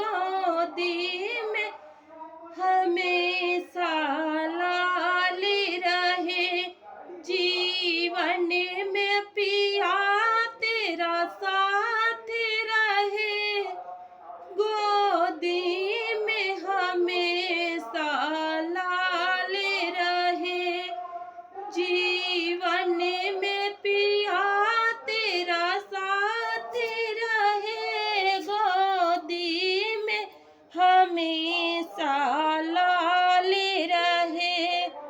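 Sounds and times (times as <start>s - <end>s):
woman singing unaccompanied: 0.0s - 1.8s, 2.5s - 13.8s, 14.5s - 21.0s, 21.6s - 35.0s.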